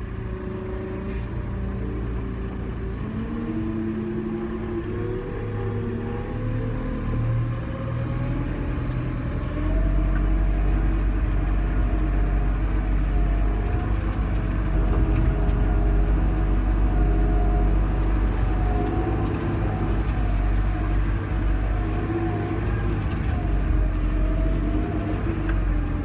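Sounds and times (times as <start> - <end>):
engine running: 0.0 - 26.0
heavy low rumble: 4.0 - 26.0.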